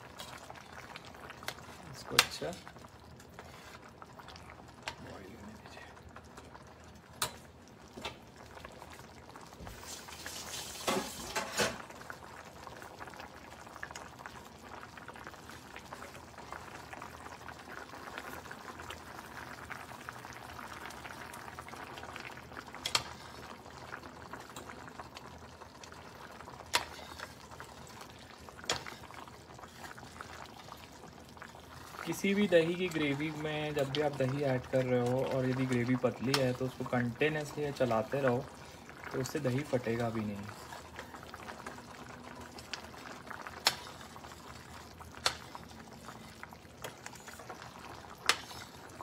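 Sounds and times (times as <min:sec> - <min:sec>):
curry bubbling in a pan: 0:00.0 - 0:49.0.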